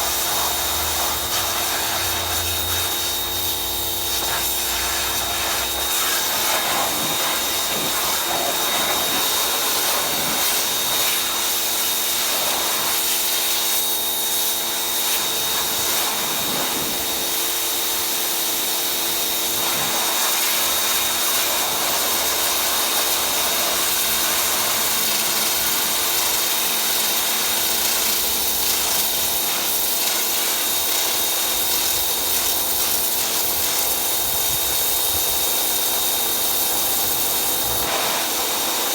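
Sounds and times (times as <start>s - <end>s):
water spray hissing: 0.0s - 18.9s, 19.5s - 38.9s
pressure washer motor humming: 0.0s - 38.9s.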